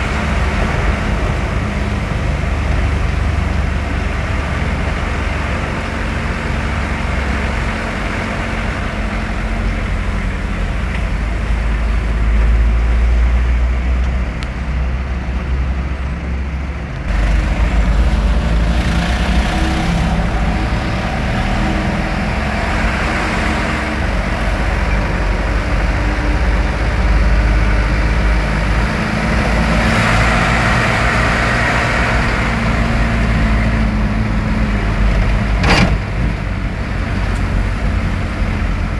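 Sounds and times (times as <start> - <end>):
road noise: 0.0 - 38.9
road vehicle running: 0.0 - 38.9.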